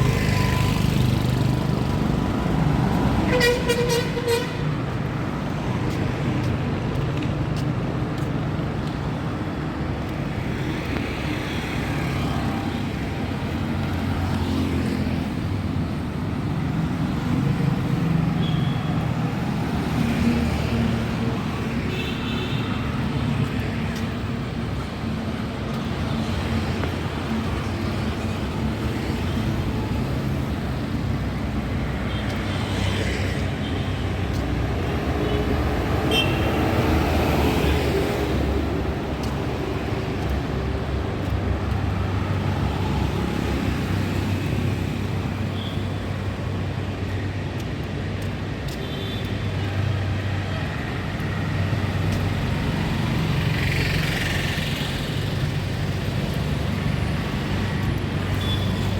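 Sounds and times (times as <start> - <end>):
road traffic rumble: 0.0 - 58.9.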